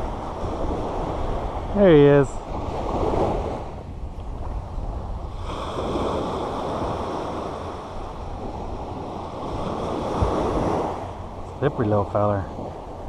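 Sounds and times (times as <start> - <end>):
surf washing up a beach: 0.0 - 13.0
wind buffeting microphone: 0.0 - 13.0.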